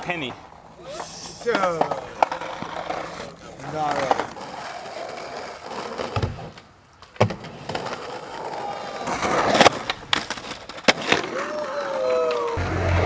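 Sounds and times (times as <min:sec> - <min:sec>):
skateboard wheels rolling on concrete: 0:00.0 - 0:13.0.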